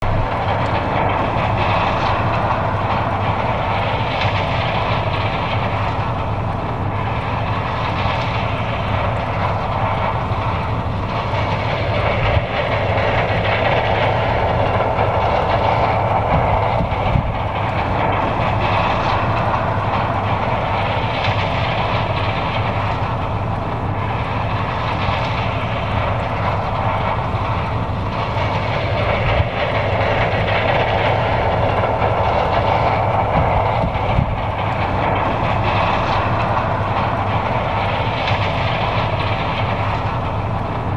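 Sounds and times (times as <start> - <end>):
combine engine droning: 0.0 - 40.9
threshing machinery clatter: 0.0 - 40.9.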